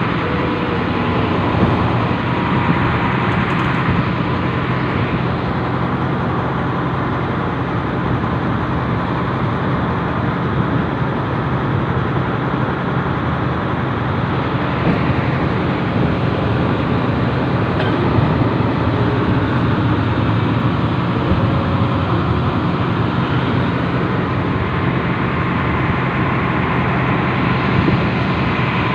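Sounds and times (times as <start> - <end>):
train engine drone and rumble: 0.0 - 28.9.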